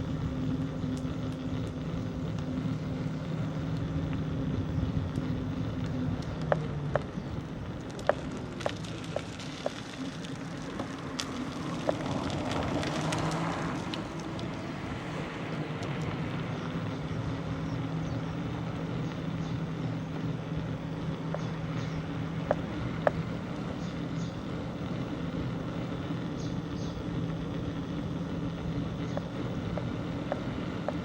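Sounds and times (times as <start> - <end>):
sharp clicks and rattles: 0.0 - 26.3, 27.1 - 31.0
bicycle rolling on road: 0.0 - 31.0
low steady hum: 0.0 - 31.0.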